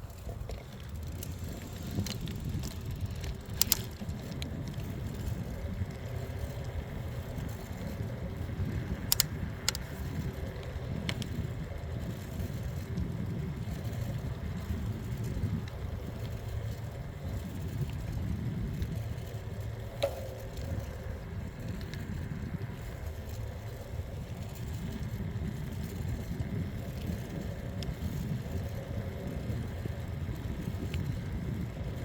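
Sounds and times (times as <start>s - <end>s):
bicycle rolling noise: 0.0s - 32.0s
low wind rumble: 0.0s - 32.0s.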